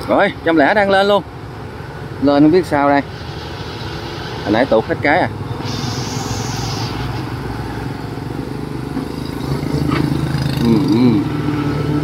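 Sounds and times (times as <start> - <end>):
harvester diesel engine under load: 0.0 - 12.0.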